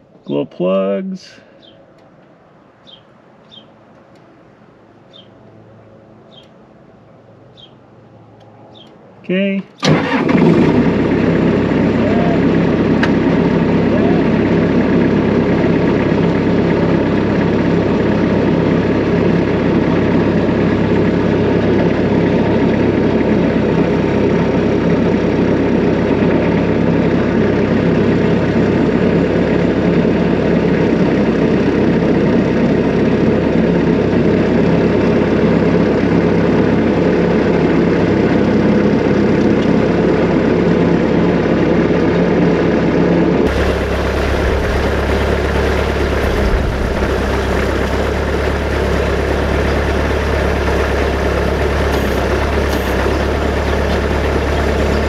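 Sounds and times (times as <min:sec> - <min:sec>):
deep engine rumble: 0:01.2 - 0:55.0
diesel engine running: 0:04.0 - 0:55.0.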